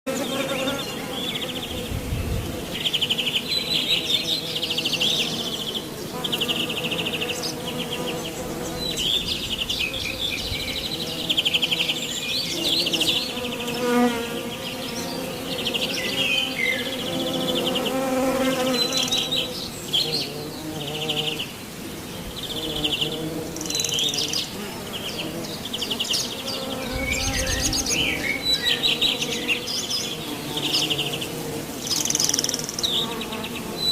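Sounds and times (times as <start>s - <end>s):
insects buzzing: 0.1s - 33.9s.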